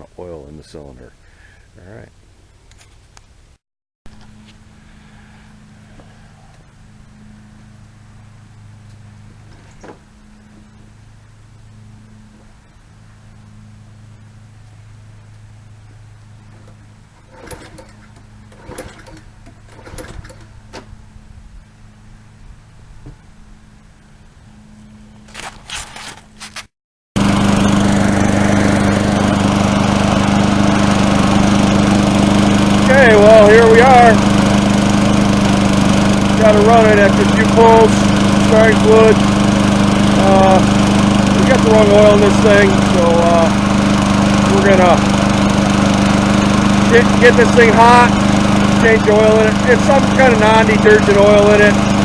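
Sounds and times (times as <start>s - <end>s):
lawn mower engine humming: 4.1s - 26.6s, 27.2s - 52.0s.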